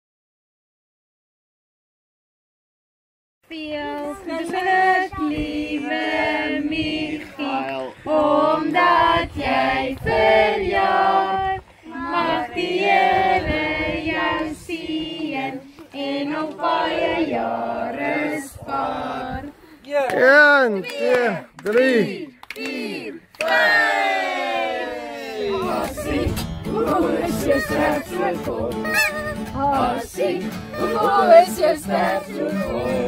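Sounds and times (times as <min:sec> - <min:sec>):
women and children singing: 0:03.5 - 0:19.6, 0:22.7 - 0:33.0.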